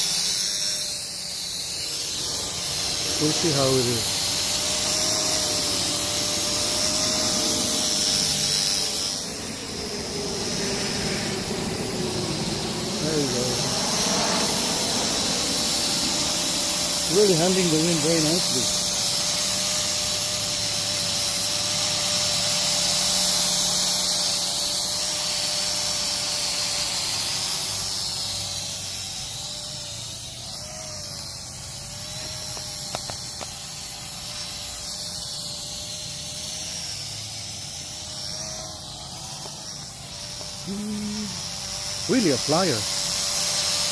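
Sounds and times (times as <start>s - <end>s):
drone propellers humming: 0.0s - 43.9s.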